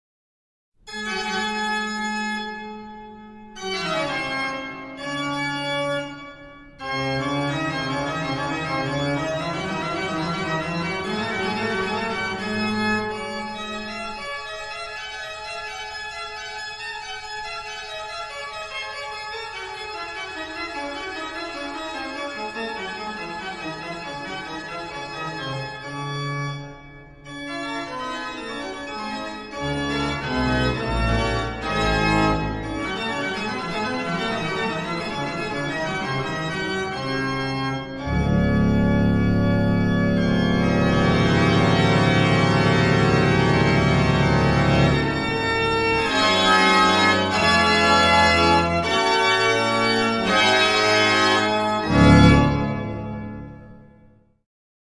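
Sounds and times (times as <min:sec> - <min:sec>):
sustained keyboard chords: 0:00.9 - 0:53.8.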